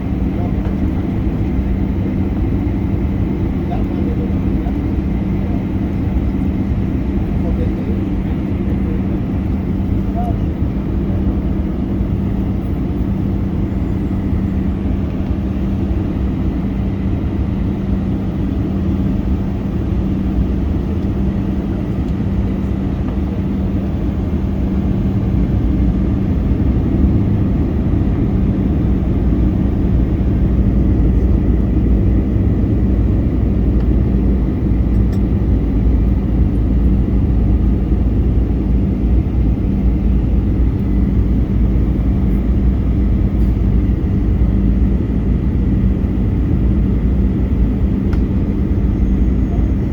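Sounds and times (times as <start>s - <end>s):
airplane cabin engine drone: 0.0s - 49.9s.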